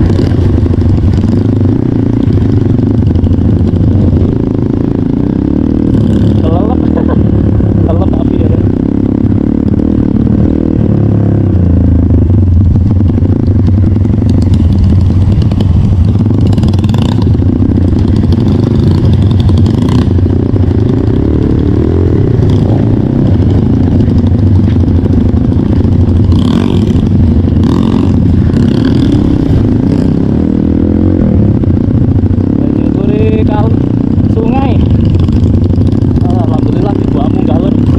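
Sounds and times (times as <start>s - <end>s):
motorcycle engine under load: 0.0s - 37.9s.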